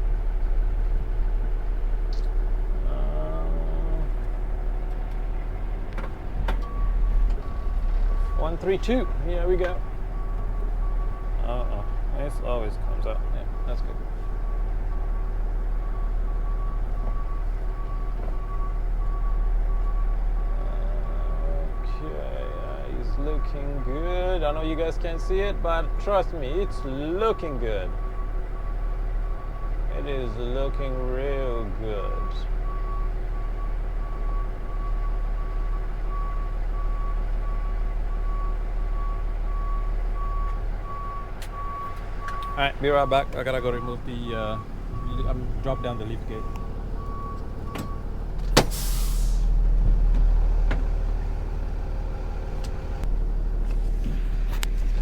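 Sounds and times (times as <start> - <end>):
truck engine running: 0.0 - 55.0
truck backup alarm beeping: 2.4 - 53.1.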